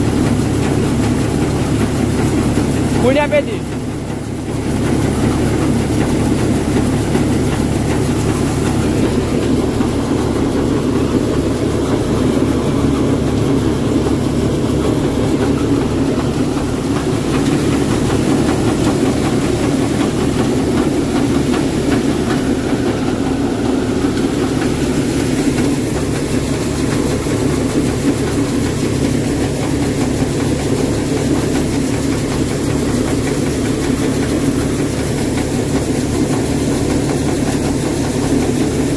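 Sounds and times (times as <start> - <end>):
thresher running: 0.0 - 38.9
tractor diesel engine: 0.0 - 38.9.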